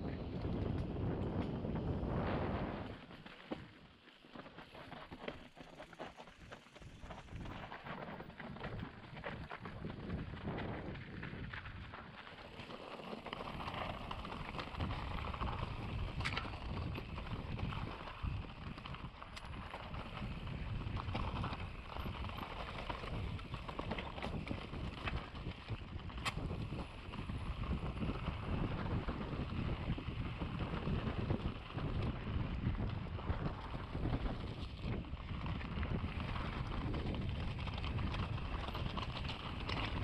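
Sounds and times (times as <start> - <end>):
wind buffeting microphone: 0.0 - 3.3, 6.8 - 12.6, 13.3 - 40.0
tyres rolling over dirt and stones: 0.2 - 40.0.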